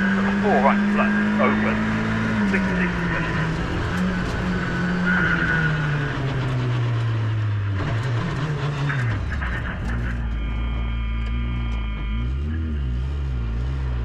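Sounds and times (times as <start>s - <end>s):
rally car engine from inside: 0.0s - 14.0s.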